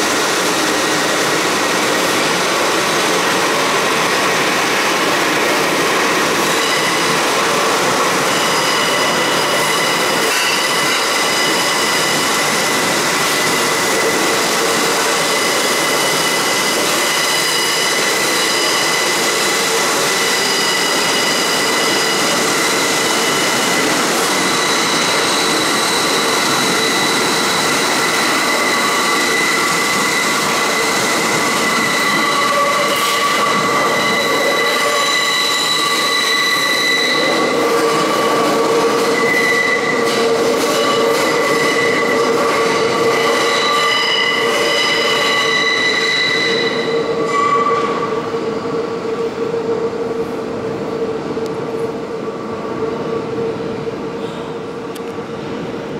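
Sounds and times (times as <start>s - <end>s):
wheels squealing on rail: 0.0s - 51.0s
subway wheels rushing on rails: 0.0s - 55.9s.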